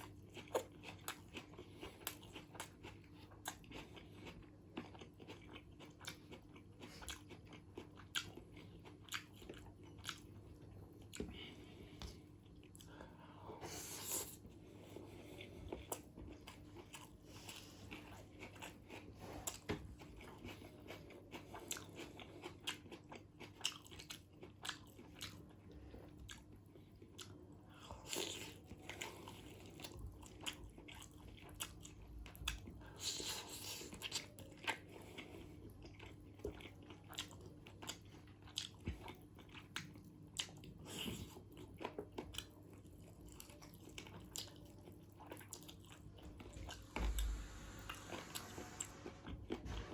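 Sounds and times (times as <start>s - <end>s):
mouth-smacking chewing with crunches: 0.0s - 48.4s.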